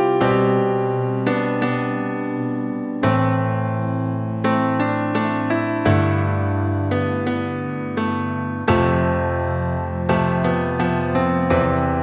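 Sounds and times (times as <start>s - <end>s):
piano playing sustained chords: 0.0s - 12.0s.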